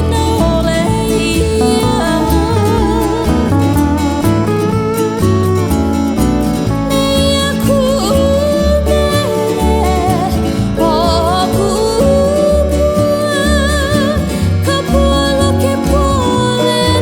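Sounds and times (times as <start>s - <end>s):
person singing: 0.0s - 4.5s, 6.8s - 17.0s
bass line: 0.0s - 17.0s
strummed acoustic guitar: 0.0s - 17.0s.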